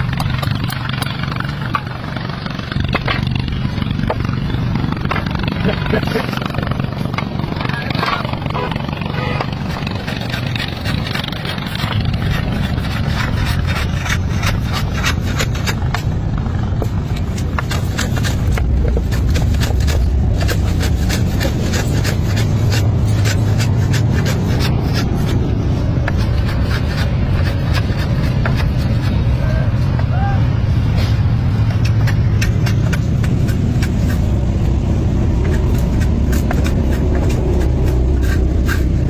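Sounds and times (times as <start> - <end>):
scraping on wood: 0.0 - 30.2, 30.8 - 39.0
low steady rumble: 0.0 - 39.0.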